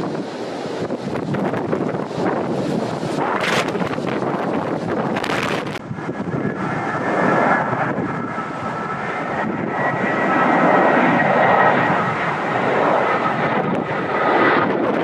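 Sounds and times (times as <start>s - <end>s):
airliner engines whining: 0.0s - 15.0s
wind buffeting microphone: 0.0s - 15.0s.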